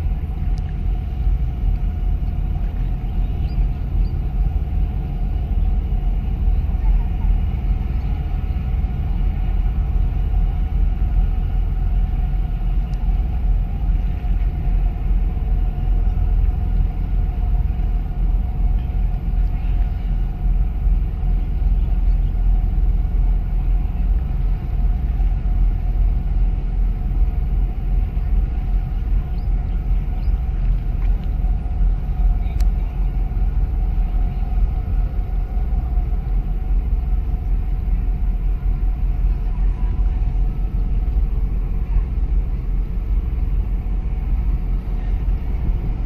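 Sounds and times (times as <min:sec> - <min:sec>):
boat engine rumble: 0:00.0 - 0:46.0
constant hum: 0:00.0 - 0:46.0.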